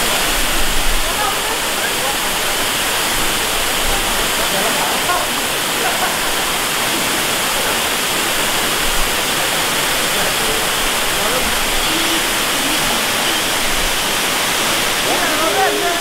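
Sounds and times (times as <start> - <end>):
waterfall rushing: 0.0 - 16.0
faint voices: 0.9 - 16.0.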